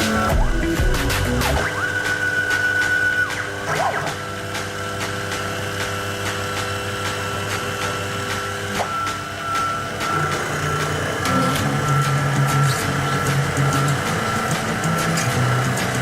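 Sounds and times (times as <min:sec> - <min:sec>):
machine high whine: 0:00.0 - 0:16.0
milling machine humming: 0:00.0 - 0:16.0.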